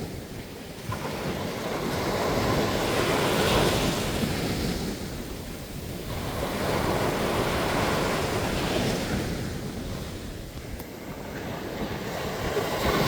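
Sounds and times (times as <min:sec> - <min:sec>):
waves breaking on beach: 0:00.0 - 0:13.0
wind on microphone: 0:00.0 - 0:13.0.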